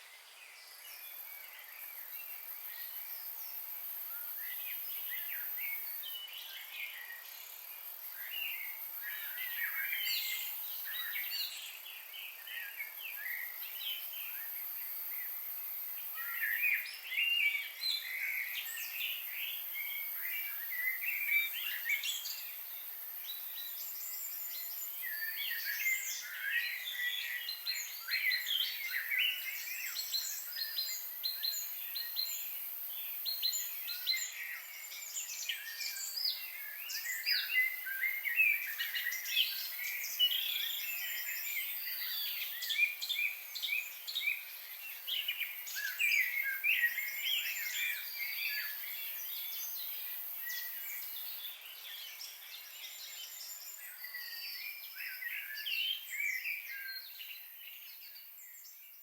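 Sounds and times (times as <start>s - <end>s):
steady high-pitched hiss: 0.0s - 59.0s.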